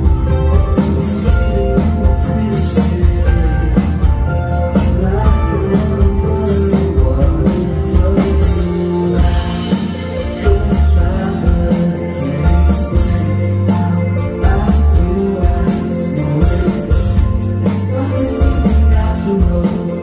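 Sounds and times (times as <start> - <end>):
drum kit: 0.0 - 20.0
electric guitars: 0.0 - 20.0
person singing: 0.0 - 20.0.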